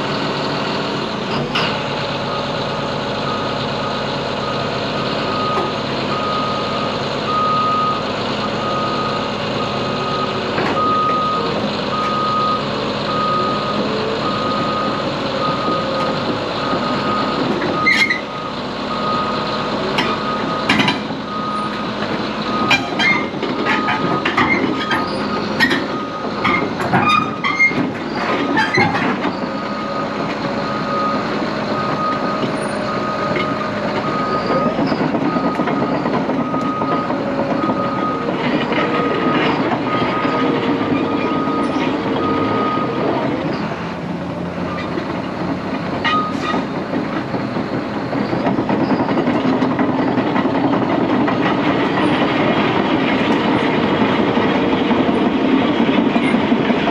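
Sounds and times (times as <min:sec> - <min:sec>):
diesel engine running: 0:00.0 - 0:56.9
dozer tracks clanking and squealing: 0:00.0 - 0:56.9.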